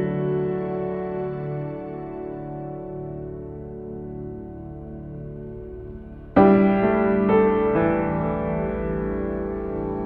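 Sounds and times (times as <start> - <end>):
soft slow piano: 0.0 - 10.0.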